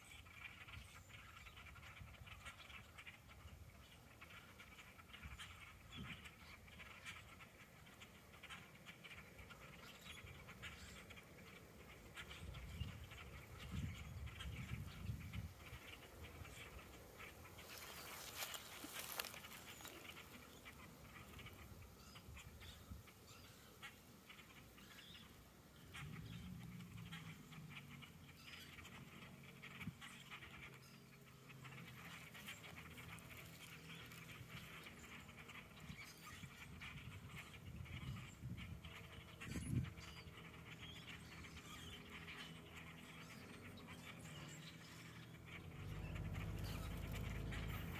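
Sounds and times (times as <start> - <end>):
flock of birds chattering: 0.0 - 47.9
low steady hum: 0.1 - 47.9.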